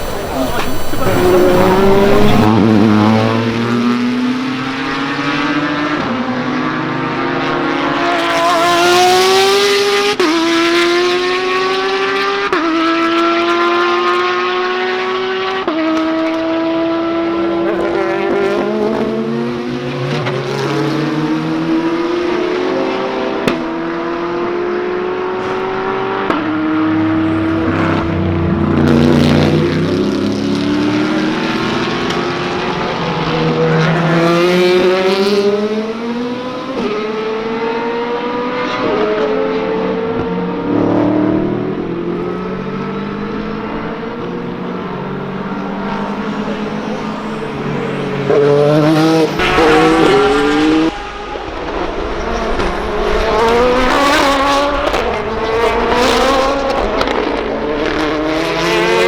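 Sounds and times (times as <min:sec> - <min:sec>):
race cars passing: 0:00.0 - 0:59.0.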